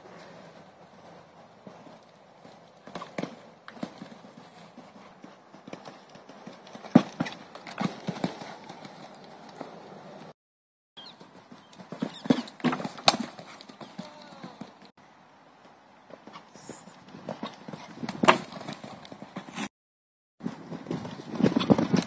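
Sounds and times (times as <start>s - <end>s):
horse hooves cantering on sand: 0.0s - 10.3s, 11.0s - 14.9s, 16.1s - 19.6s, 20.4s - 22.0s.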